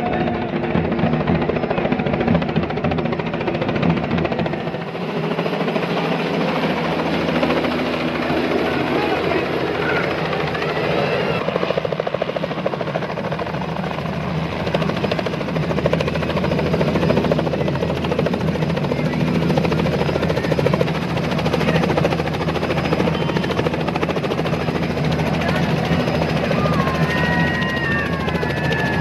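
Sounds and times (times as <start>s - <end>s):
helicopter rotor chopping: 0.0s - 29.0s.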